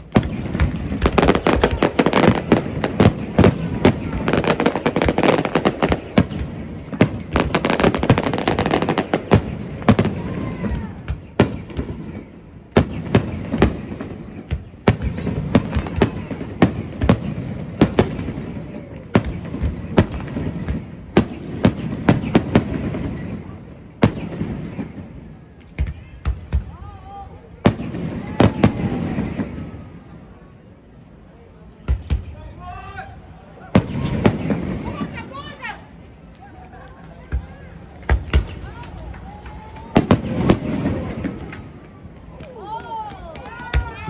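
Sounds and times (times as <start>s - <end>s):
fireworks booming and crackling: 0.0s - 30.3s, 31.8s - 32.6s, 33.6s - 44.0s.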